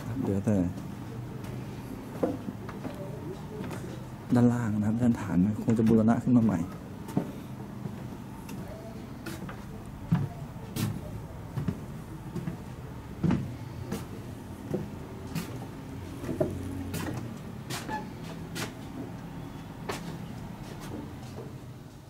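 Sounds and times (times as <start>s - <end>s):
footsteps on wooden planks: 0.0s - 4.6s, 5.7s - 19.2s, 19.8s - 21.7s.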